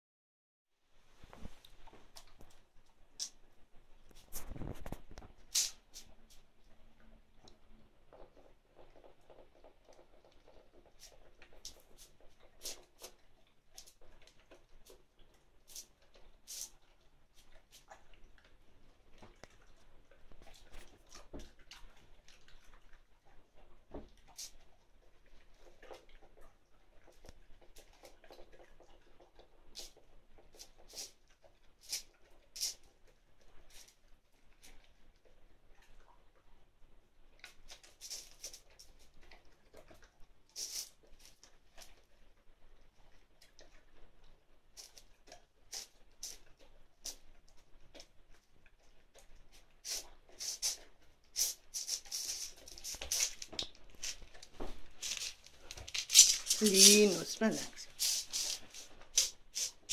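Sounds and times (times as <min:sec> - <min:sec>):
dog chewing and smacking: 0:01.6 - 0:57.1.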